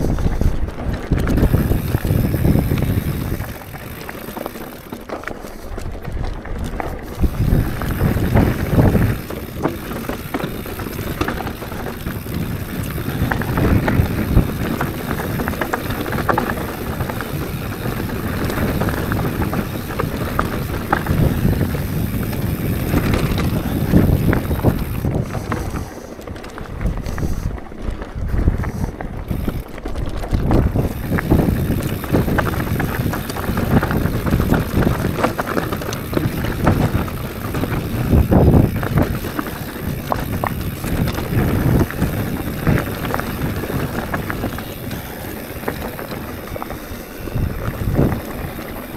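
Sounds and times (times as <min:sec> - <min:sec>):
bike clattering and rattling: 0:00.0 - 0:48.9
bike tyre rumble on dirt: 0:00.0 - 0:48.9
wind buffeting microphone: 0:00.0 - 0:48.9.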